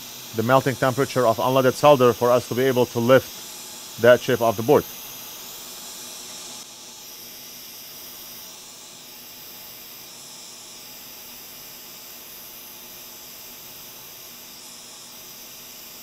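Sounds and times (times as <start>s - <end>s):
hot air station hissing: 0.0s - 16.0s.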